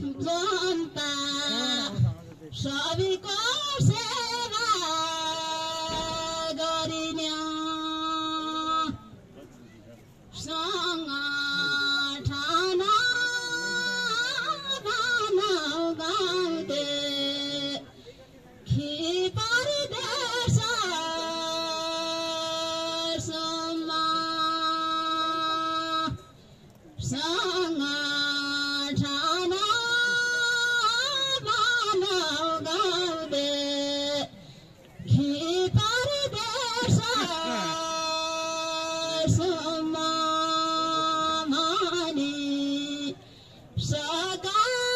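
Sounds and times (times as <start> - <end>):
person singing folk song: 0.0 - 9.1, 10.3 - 18.0, 18.6 - 44.9.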